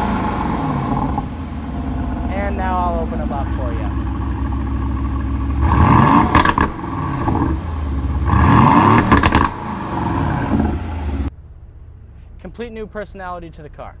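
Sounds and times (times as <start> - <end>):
car engine revving: 0.0 - 11.3
exhaust crackles and pops: 0.0 - 11.3
car engine idling: 0.0 - 12.2.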